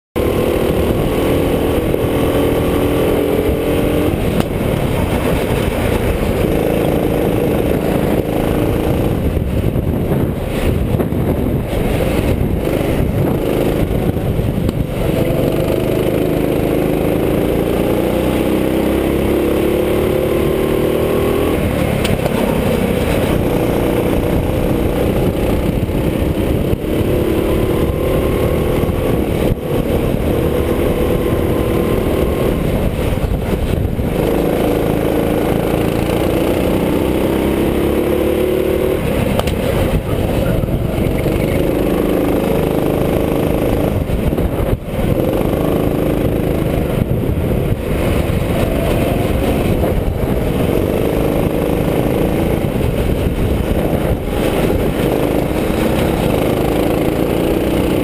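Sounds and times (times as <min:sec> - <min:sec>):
go-kart engine revving: 0:00.2 - 0:58.0.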